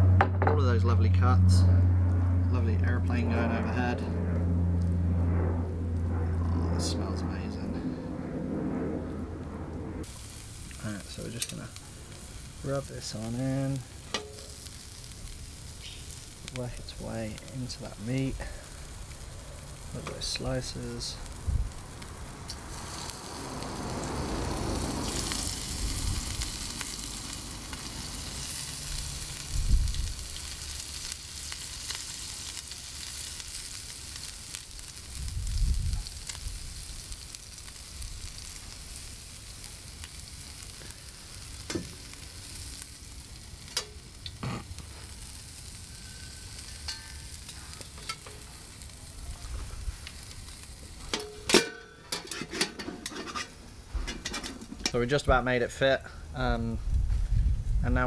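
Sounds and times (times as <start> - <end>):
oil sizzling on grill: 10.0 - 58.0.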